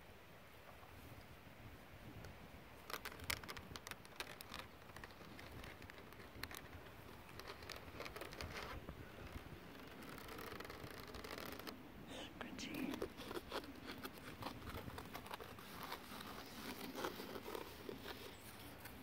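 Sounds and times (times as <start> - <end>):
fingernails scratching mesh net: 2.8 - 11.8, 12.7 - 19.0.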